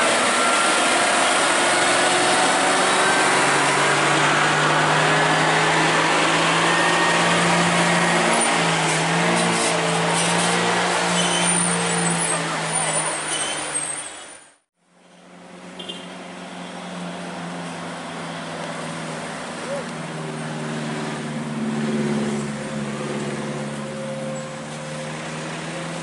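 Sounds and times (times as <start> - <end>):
truck diesel engine droning: 0.0 - 26.0.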